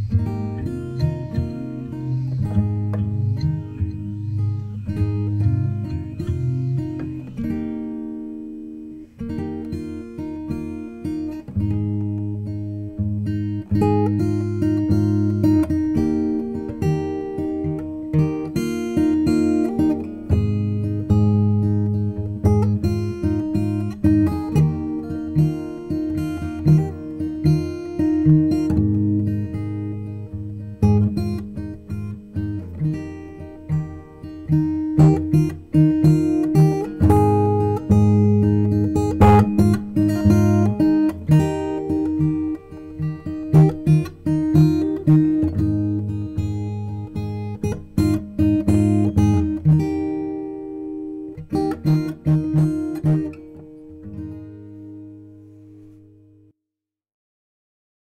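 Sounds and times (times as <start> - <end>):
acoustic guitar music: 0.0 - 56.6.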